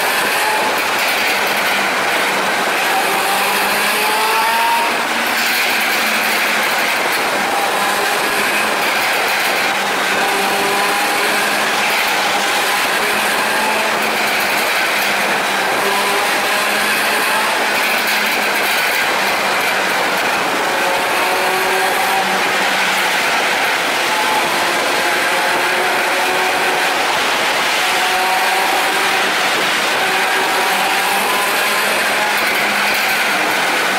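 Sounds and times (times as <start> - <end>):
motorcycle engine drone: 0.0 - 33.9
wind and road noise: 0.0 - 33.9.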